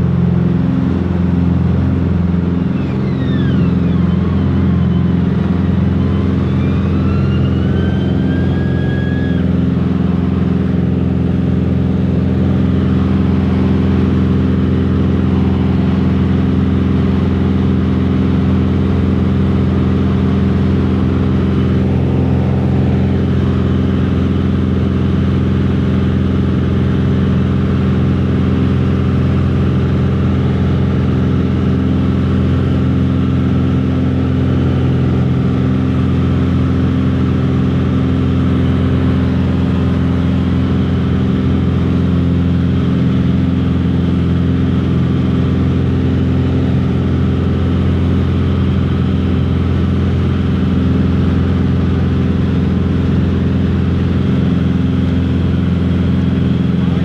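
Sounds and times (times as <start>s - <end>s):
airliner engines drone in cabin: 0.0s - 57.0s.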